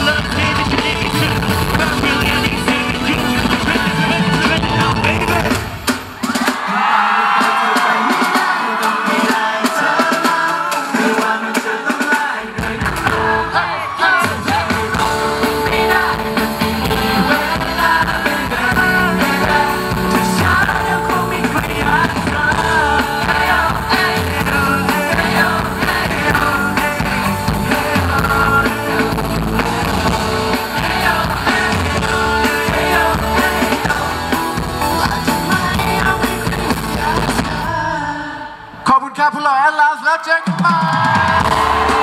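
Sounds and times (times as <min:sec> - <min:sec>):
man singing into a microphone: 0:00.0 - 0:05.8, 0:06.7 - 0:42.0
pop-rock band playing: 0:00.0 - 0:38.4, 0:40.8 - 0:42.0.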